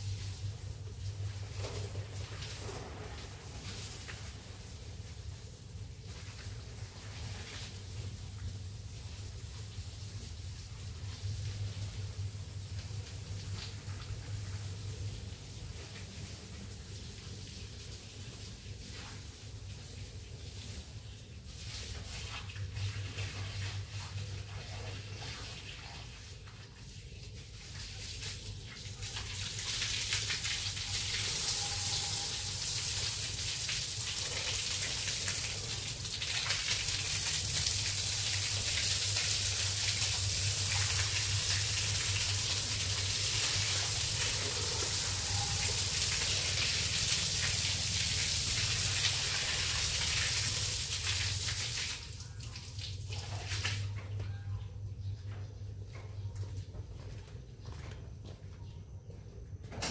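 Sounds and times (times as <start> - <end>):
running water: 0.0 - 54.2
constant low hum: 0.0 - 59.9.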